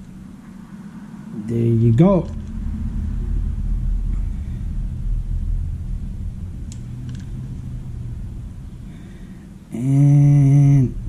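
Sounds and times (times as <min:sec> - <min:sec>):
faint hum: 0:00.0 - 0:11.0
low rumble: 0:00.0 - 0:11.0.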